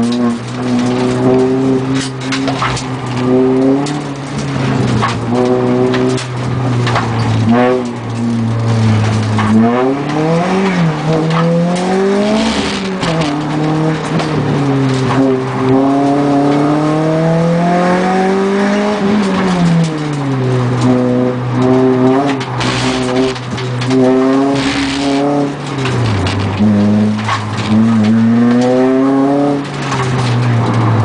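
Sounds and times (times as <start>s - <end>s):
racing car engine revving: 0.0s - 31.0s.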